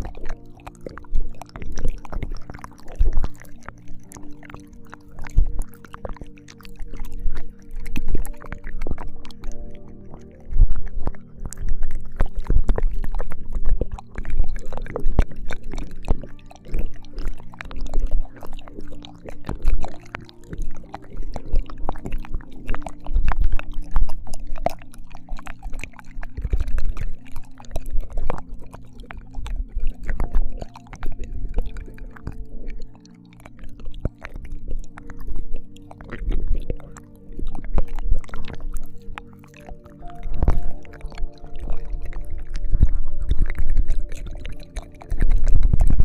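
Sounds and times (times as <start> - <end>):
soft background music: 0.0 - 46.0
wet mouth sounds: 0.0 - 46.0.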